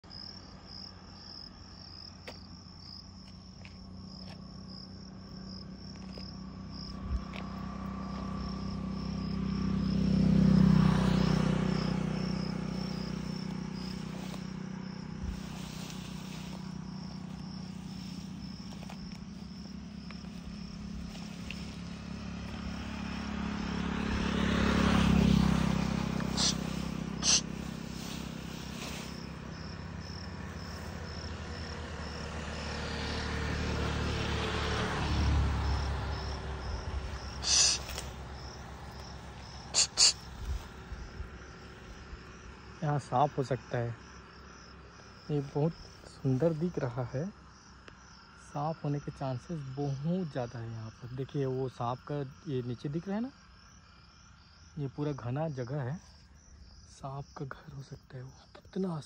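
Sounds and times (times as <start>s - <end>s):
insects chirring: 0.0s - 59.0s
vehicles passing: 0.1s - 56.9s.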